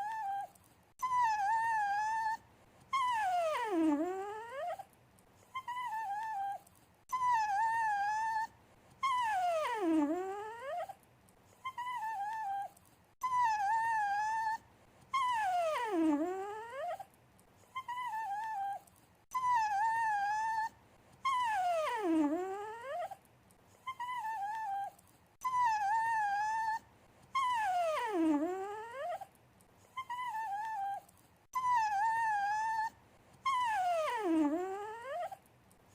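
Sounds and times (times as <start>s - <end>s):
dog whining: 0.0s - 11.0s, 11.6s - 35.5s.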